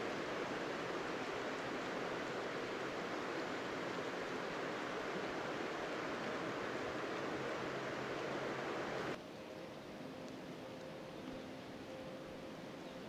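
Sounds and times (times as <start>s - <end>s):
flowing water: 0.0s - 13.0s
rain falling on river and foliage: 0.0s - 13.0s.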